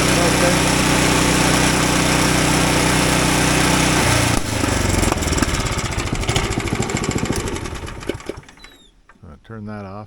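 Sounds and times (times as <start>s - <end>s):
small gasoline engine running: 0.0s - 8.8s.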